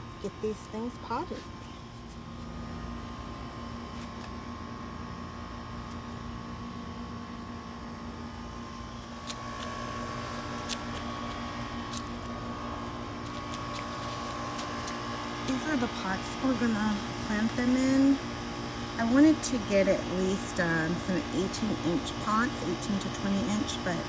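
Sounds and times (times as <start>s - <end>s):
air conditioner whirring hum: 0.0s - 24.0s.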